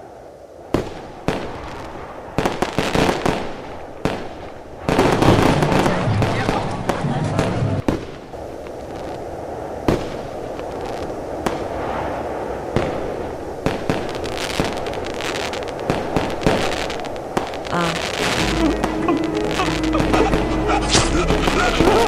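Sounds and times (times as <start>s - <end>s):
fireworks crackling: 0.0s - 22.0s
fireworks bangs: 0.6s - 22.0s.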